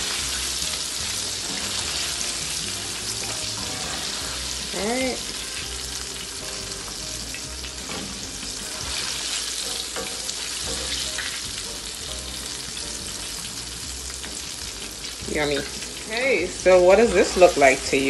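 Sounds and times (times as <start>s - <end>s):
spatula knocking and scraping pan: 0.0s - 16.0s
deep-frying sizzle: 0.0s - 18.0s.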